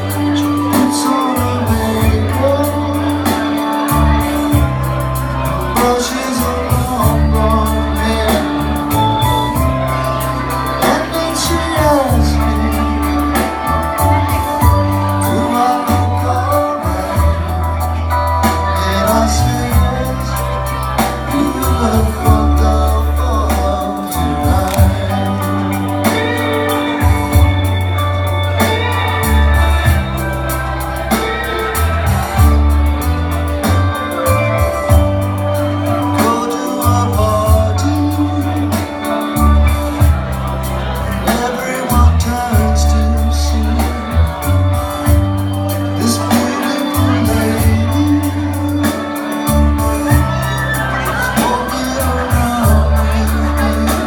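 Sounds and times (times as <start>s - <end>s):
held bass notes: 0.0s - 54.0s
person singing slow song: 0.0s - 54.0s.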